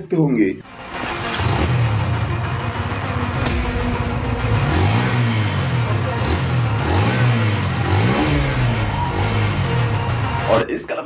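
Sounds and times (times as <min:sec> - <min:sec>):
motorcycle engine revving: 0:00.6 - 0:10.6.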